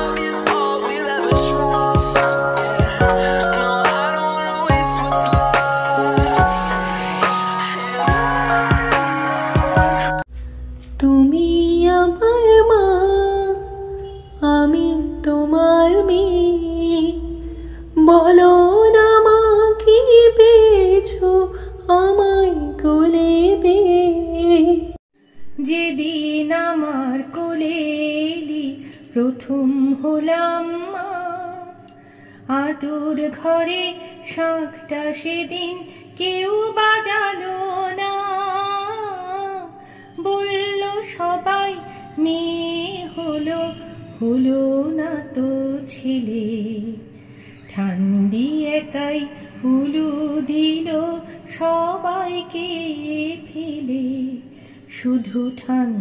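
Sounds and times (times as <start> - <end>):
woman singing: 0.0 - 10.2, 11.0 - 25.0, 25.6 - 31.9, 32.5 - 47.0, 47.7 - 56.0.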